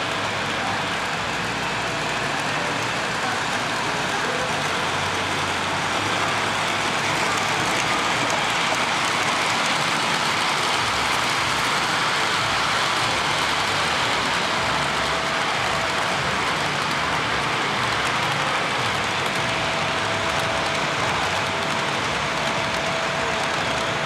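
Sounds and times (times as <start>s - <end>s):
model train cars rolling and rattling: 0.0s - 24.0s.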